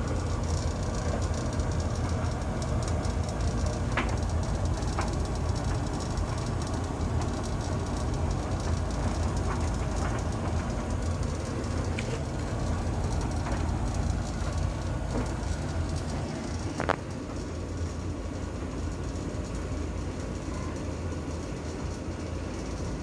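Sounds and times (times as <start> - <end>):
tumble dryer drum rumbling: 0.0 - 23.0.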